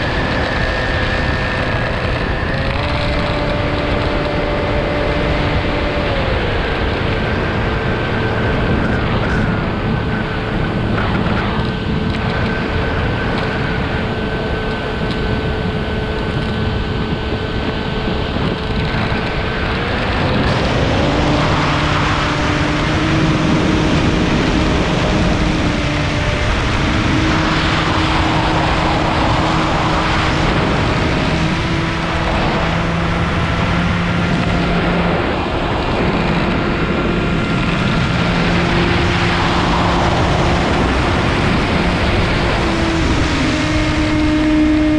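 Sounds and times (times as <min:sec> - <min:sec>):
drone motors and propellers: 0:00.0 - 0:44.9
rushing wind: 0:00.0 - 0:44.9.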